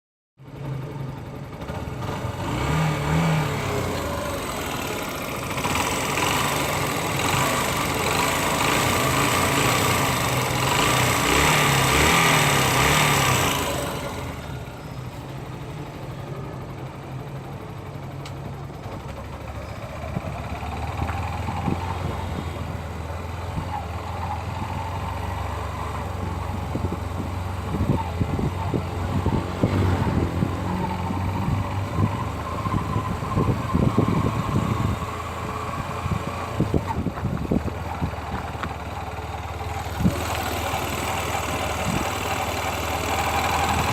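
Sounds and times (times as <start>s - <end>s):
motorcycle engine revving: 0.6s - 43.9s.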